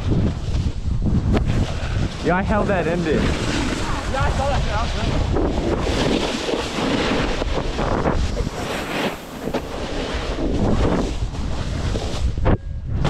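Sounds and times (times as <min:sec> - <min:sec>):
snowboard scraping over snow: 0:00.0 - 0:13.0
wind buffeting microphone: 0:00.0 - 0:13.0.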